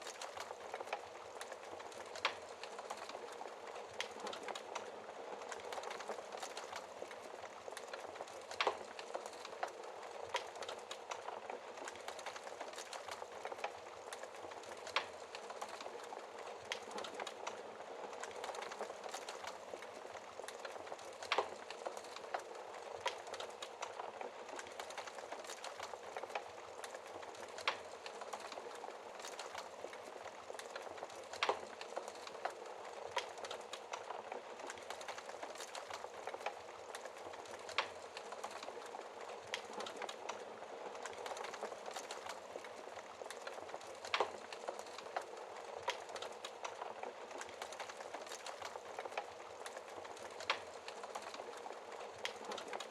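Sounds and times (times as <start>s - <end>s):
small fire crackles: 0.0s - 52.9s.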